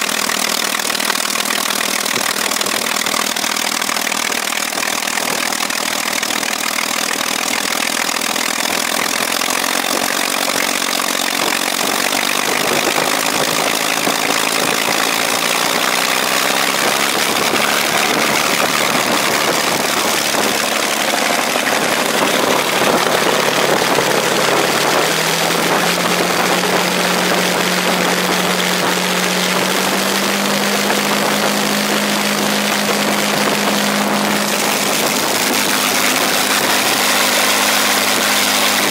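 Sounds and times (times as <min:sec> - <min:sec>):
aero engine running: 0:00.0 - 0:38.9.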